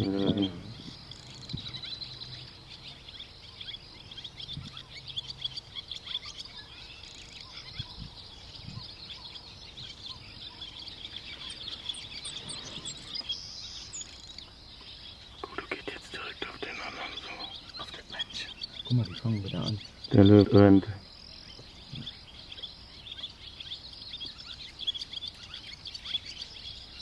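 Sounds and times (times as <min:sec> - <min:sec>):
high insect drone: 0:00.0 - 0:27.0
rising bird calls: 0:00.0 - 0:27.0.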